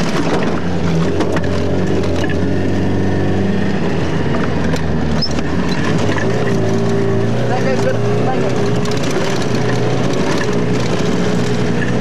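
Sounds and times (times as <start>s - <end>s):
car engine running hard: 0.0s - 12.0s.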